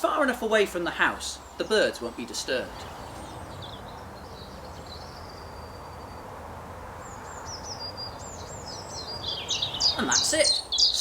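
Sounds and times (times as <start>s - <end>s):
small birds chirping: 0.0s - 11.0s
high falling bird chirps: 1.0s - 11.0s.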